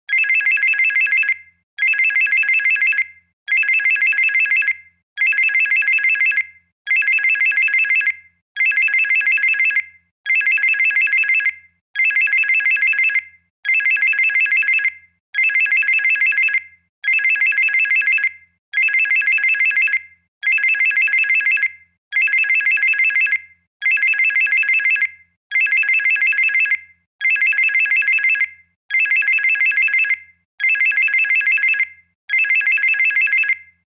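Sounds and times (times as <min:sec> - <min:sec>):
high-pitched phone ringtone trill: 0:00.1 - 0:33.6.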